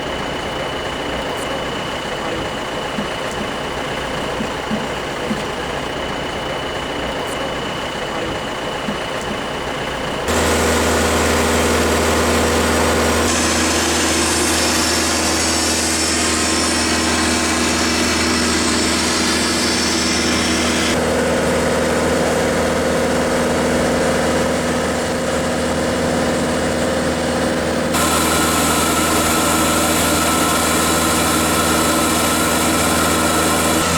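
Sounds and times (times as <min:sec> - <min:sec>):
engines droning: 0:00.0 - 0:33.9.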